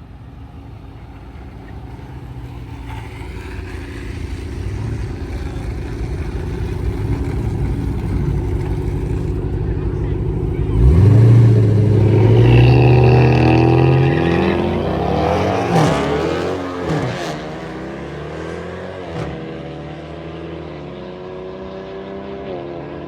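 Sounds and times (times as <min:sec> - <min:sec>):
drag racing cars launching: 0:00.4 - 0:22.5.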